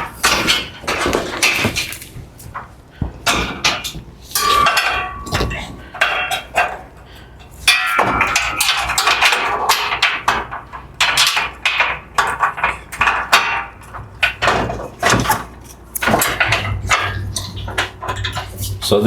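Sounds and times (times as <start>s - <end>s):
metal scaffold parts clanking: 0.0s - 19.0s.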